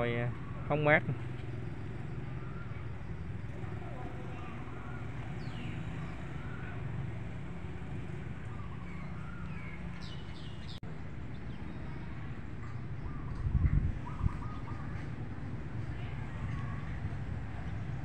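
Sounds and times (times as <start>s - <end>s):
birds chirping: 0.0s - 18.0s
passing traffic rumble: 0.0s - 18.0s.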